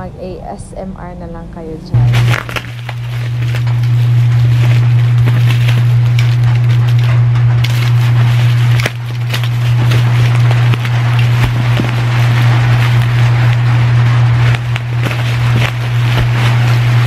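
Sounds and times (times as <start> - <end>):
loud low hum: 0.0 - 17.0
bubble wrap crinkling: 2.0 - 17.0.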